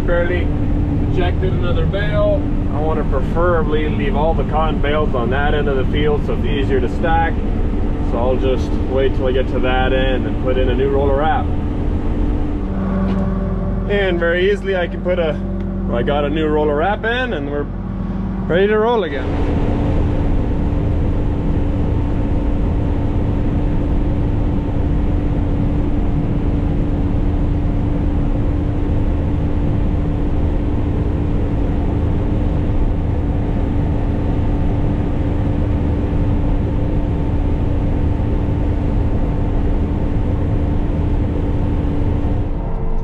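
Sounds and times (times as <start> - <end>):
cotton stripper machine drone: 0.0 - 43.0.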